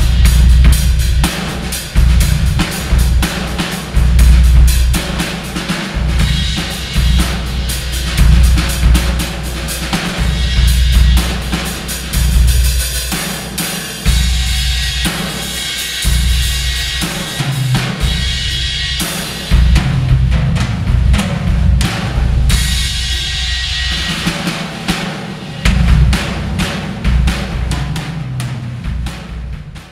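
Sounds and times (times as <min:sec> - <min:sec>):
acoustic drum kit playing: 0:00.0 - 0:29.9.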